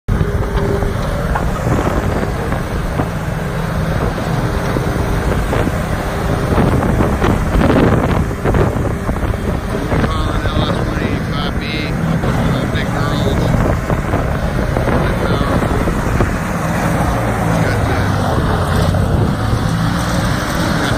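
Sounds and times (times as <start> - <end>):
diesel engine running: 0.1 - 20.9.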